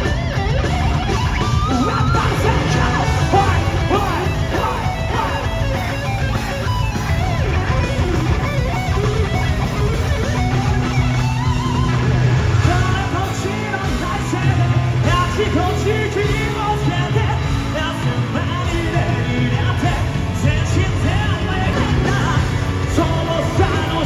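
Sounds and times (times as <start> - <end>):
electric guitar bending notes: 0.0 - 24.0
live rock band playing: 0.0 - 24.0.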